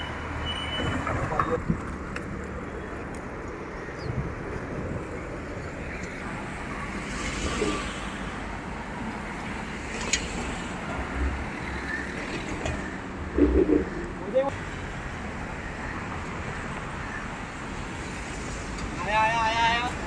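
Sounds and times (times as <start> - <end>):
street traffic passing: 0.0 - 20.0.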